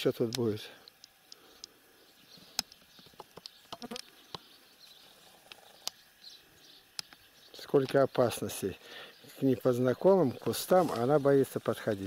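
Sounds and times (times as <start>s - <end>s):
faint insect buzzing: 0.0s - 12.0s.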